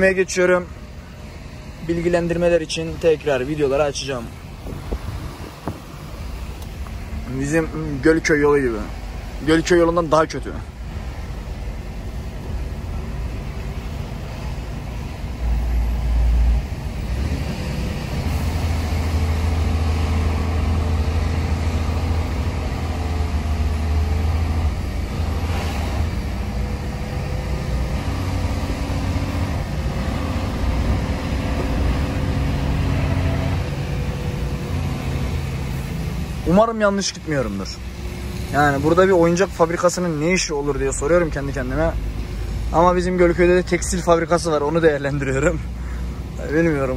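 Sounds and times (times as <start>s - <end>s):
road noise: 0.0s - 46.9s
truck diesel engine running: 0.0s - 46.9s.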